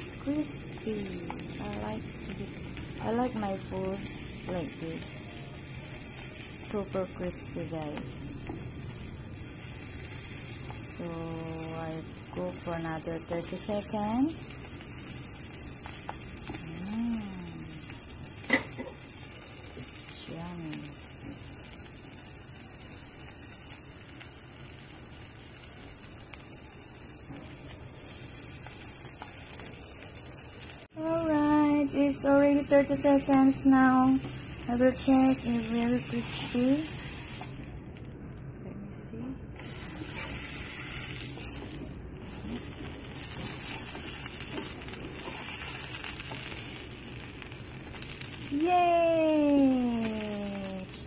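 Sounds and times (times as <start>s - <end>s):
tortilla sizzling in a pan: 0.0s - 38.2s, 39.5s - 51.0s.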